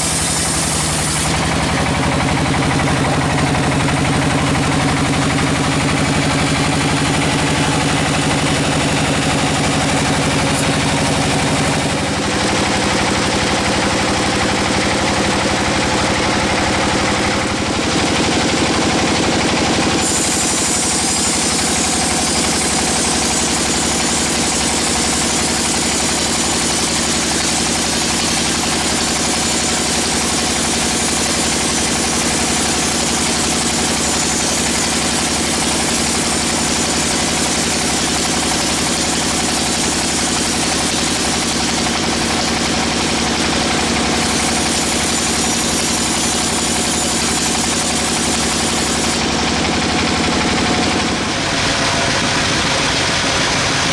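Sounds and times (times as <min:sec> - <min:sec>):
band sawmill running: 0:00.0 - 0:53.9.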